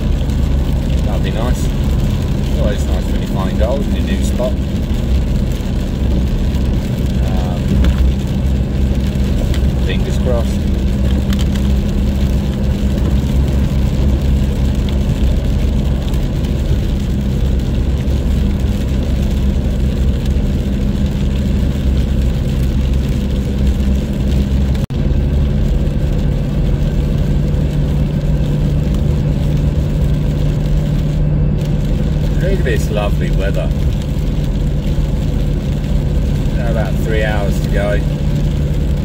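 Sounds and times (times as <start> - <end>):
car engine hum: 0.0 - 39.0
tyre noise on wet road: 0.0 - 39.0.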